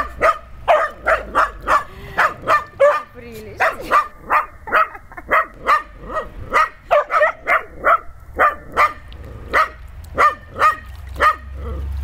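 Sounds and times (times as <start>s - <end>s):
puppy yapping: 0.0s - 11.8s.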